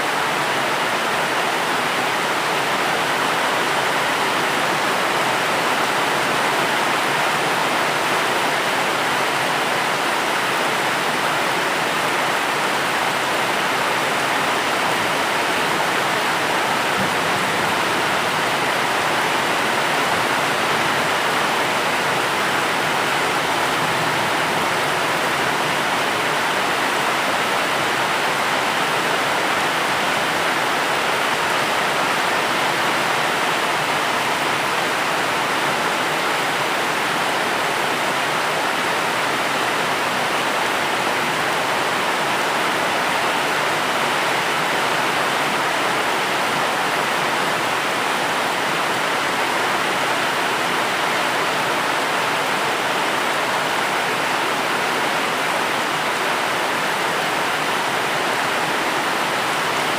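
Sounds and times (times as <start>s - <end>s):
steady heavy rain: 0.0s - 59.9s.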